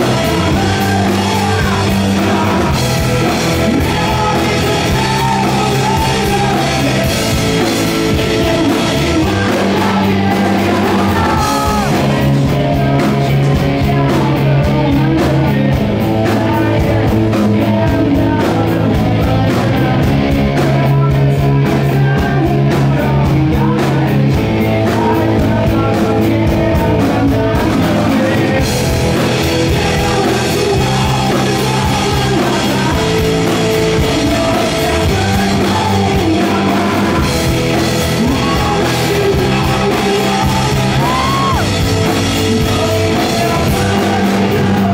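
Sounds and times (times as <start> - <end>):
bass guitar: 0.0 - 44.9
distorted electric guitars: 0.0 - 44.9
drums: 0.0 - 44.9
man singing: 0.0 - 44.9.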